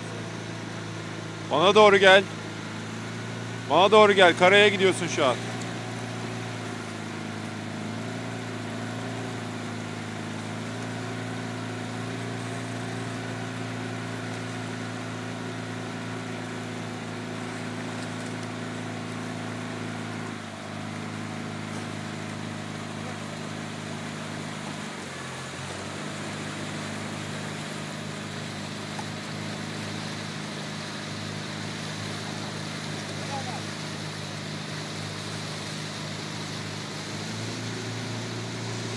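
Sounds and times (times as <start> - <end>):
outboard motor running: 0.0 - 38.9
wind: 0.0 - 38.9.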